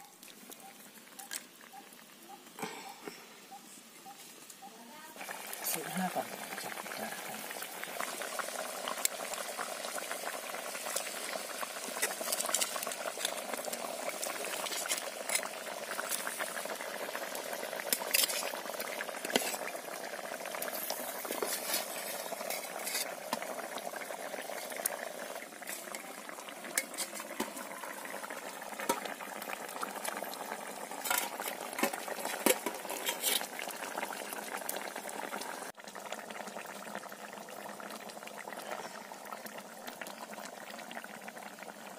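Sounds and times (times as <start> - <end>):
curry bubbling in a pan: 5.2 - 41.9.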